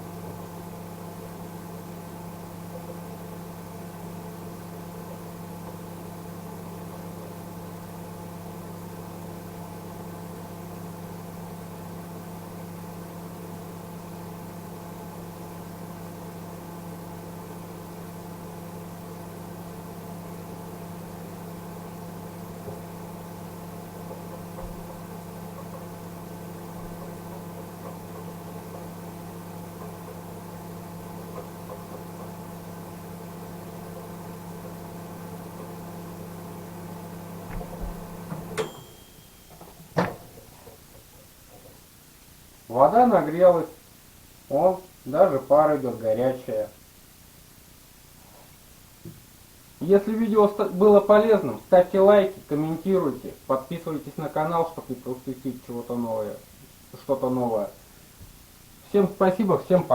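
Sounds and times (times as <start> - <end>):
microwave oven humming: 0.0 - 59.9.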